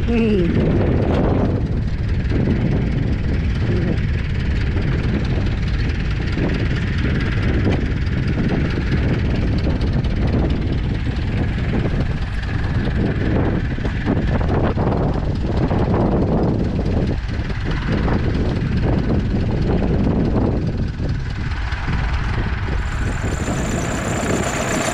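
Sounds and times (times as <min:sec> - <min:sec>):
tractor engine running: 0:00.2 - 0:24.9.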